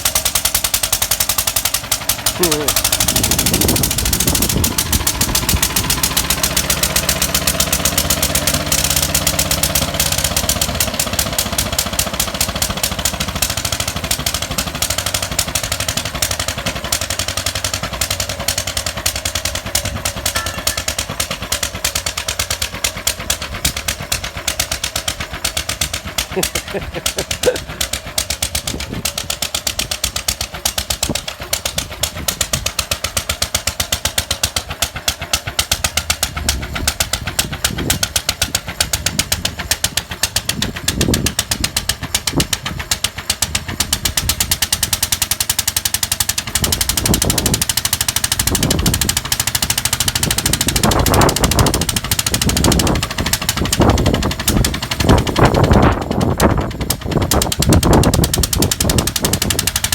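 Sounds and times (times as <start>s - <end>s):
stationary engine knocking: 0.0s - 59.9s.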